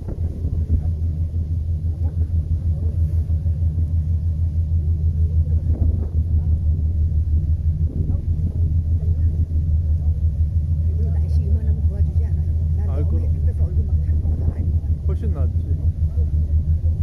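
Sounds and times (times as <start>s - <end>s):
faint voices: 0.0s - 17.0s
low engine rumble: 0.0s - 17.0s.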